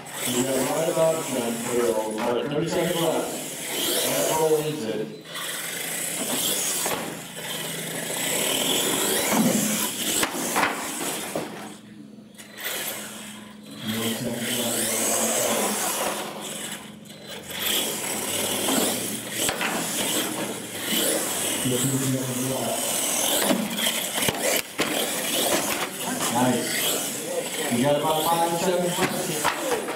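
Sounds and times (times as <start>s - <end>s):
toy truck motor whining: 0.0s - 29.9s.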